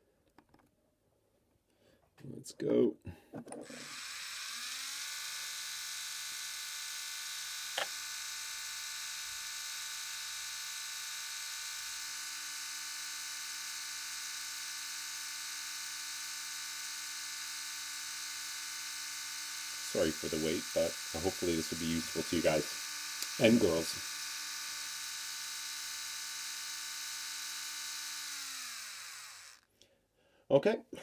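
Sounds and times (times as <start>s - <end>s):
electric motor whining: 3.6s - 29.7s.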